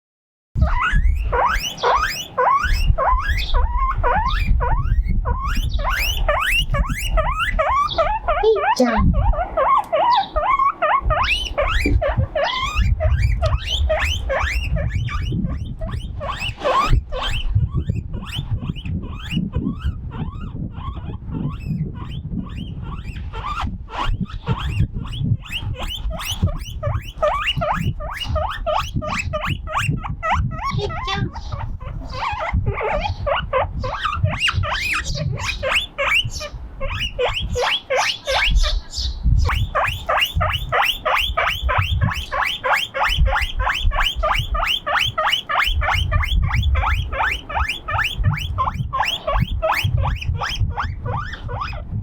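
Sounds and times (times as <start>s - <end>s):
wind rumble on microphone: 0.6s - 1.8s, 2.4s - 9.6s, 10.2s - 42.4s, 43.2s - 52.0s
guinea pig wheeking: 0.6s - 52.0s.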